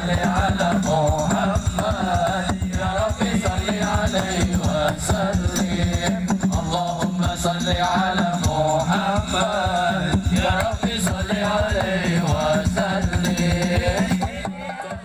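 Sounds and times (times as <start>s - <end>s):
devotional singing: 0.0s - 15.0s
rapid drumming: 0.0s - 15.0s.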